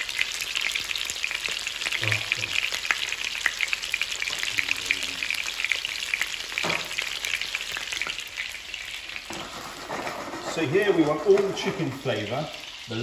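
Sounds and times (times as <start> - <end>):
chicken sizzling in frying pan: 0.0 - 13.0.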